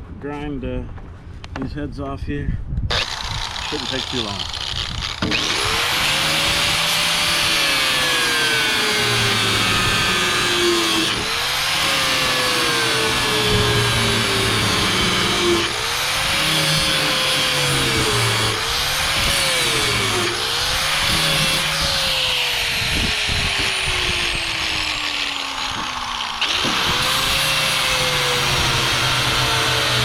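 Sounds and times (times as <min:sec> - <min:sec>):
grinder motor whining: 0:02.9 - 0:30.0.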